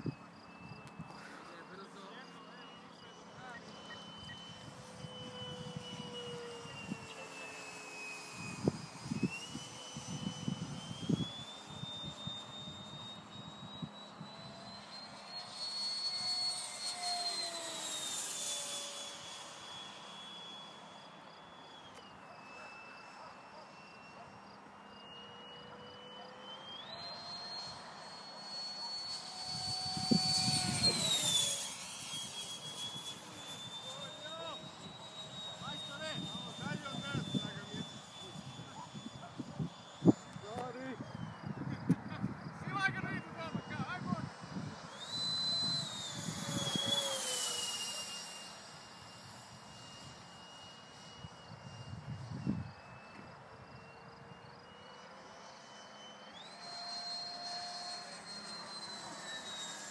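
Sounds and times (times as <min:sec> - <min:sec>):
model jet ducted fan whine: 0:00.0 - 0:59.9.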